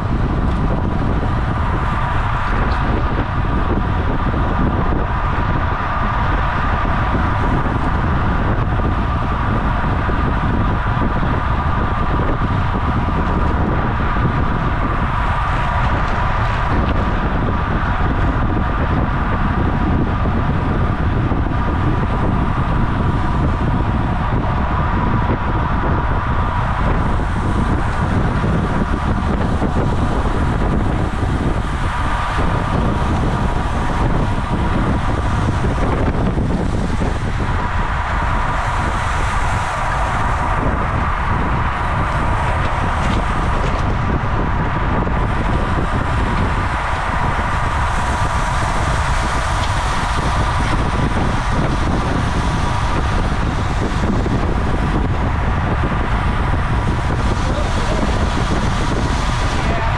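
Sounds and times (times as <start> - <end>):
steady whining hum: 0.0 - 59.9
wind noise on microphone: 0.0 - 59.9.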